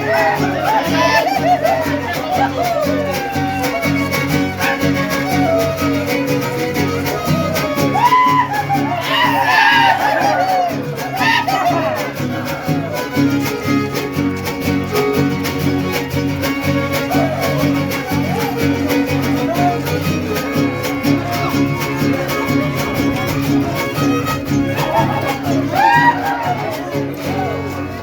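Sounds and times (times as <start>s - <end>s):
strummed guitars: 0.0s - 28.0s
violin melody: 0.0s - 28.0s.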